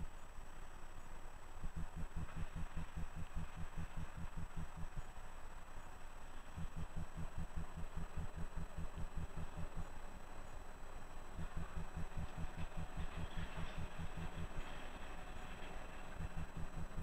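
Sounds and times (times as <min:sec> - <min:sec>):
low mechanical throbbing: 0:01.6 - 0:05.2, 0:06.4 - 0:17.0.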